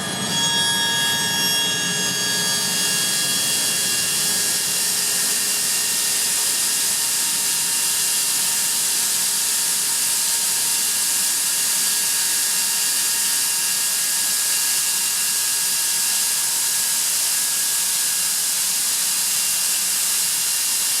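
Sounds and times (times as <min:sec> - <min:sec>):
air compressor running: 0:01.2 - 0:21.0.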